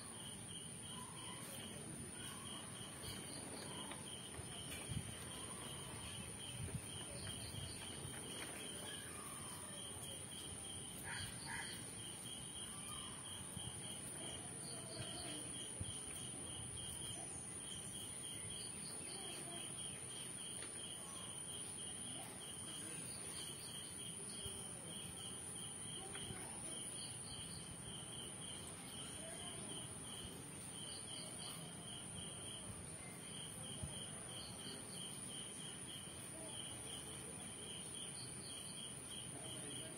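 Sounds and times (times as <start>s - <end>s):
insects chirping and trilling: 0.0s - 39.9s.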